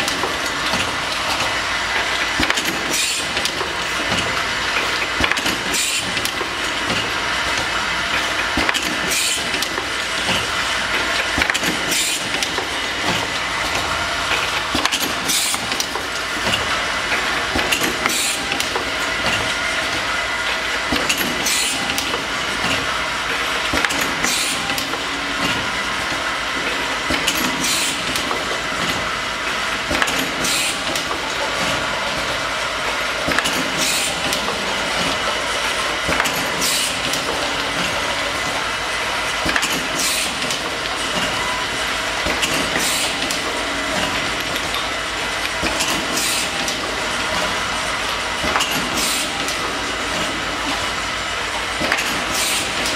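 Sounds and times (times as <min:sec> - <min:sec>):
bottling machine clattering: 0:00.0 - 0:52.9.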